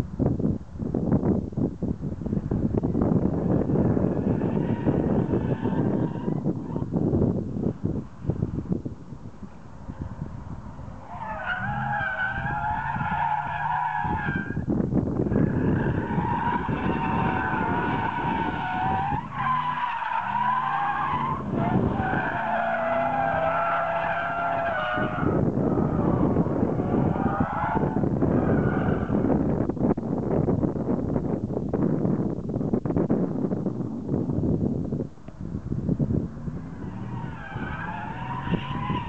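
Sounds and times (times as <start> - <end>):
car engine running hard: 1.9 - 31.6, 32.4 - 39.0.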